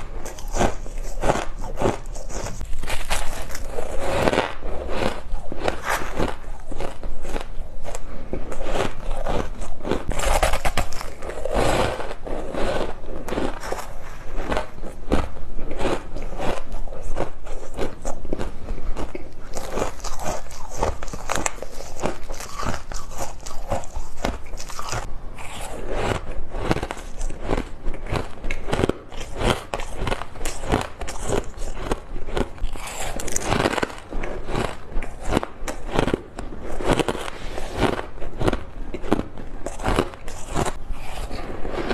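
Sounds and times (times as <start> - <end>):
ice being chewed: 0.0 - 41.9.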